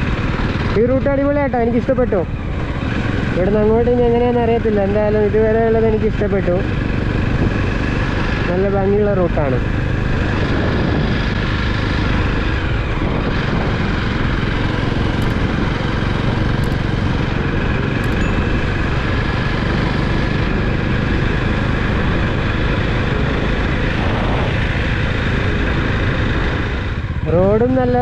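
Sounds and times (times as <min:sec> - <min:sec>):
motorcycle engine running: 0:00.0 - 0:28.0
road noise: 0:00.0 - 0:28.0
wind noise: 0:00.0 - 0:28.0.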